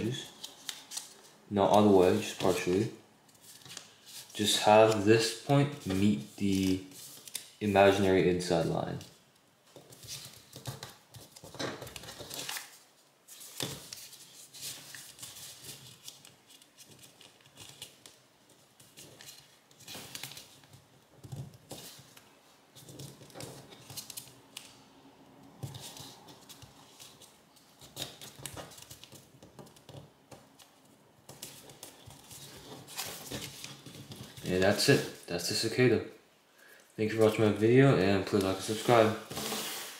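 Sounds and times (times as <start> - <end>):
paper rustling and crinkling: 0.0 - 8.1, 8.8 - 24.8, 25.6 - 35.3, 38.3 - 39.9.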